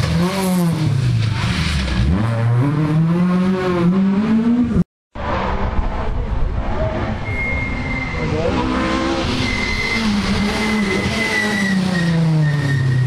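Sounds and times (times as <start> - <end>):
rally car engine revving: 0.0 - 13.0
rough rally car engine: 0.0 - 13.0.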